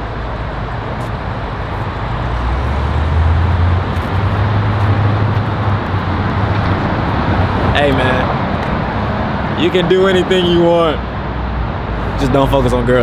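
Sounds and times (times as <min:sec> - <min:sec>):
broad rushing noise: 0:00.0 - 0:13.0
car engine humming: 0:00.0 - 0:13.0.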